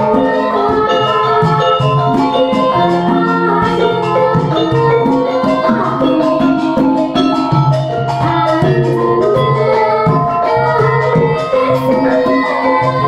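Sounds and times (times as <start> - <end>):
gamelan ensemble playing: 0.0 - 13.0
woman singing into a microphone: 0.0 - 13.0.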